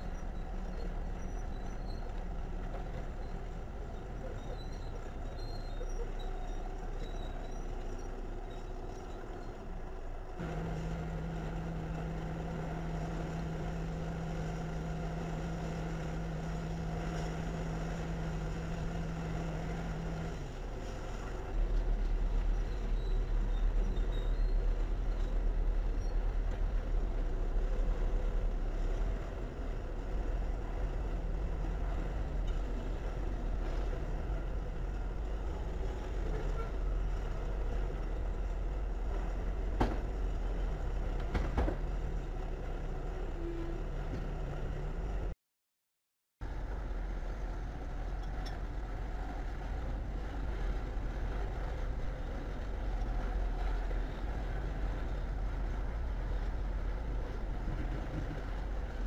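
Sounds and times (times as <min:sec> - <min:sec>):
diesel engines rumbling: 0:00.0 - 0:45.4, 0:46.4 - 0:59.0.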